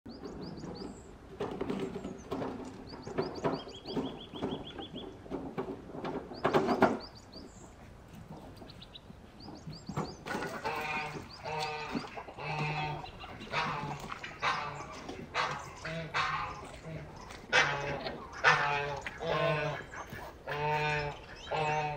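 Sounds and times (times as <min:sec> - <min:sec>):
farm animals calling: 0:00.1 - 0:05.5, 0:06.2 - 0:21.9
small birds chirping: 0:00.1 - 0:05.5, 0:06.1 - 0:21.9.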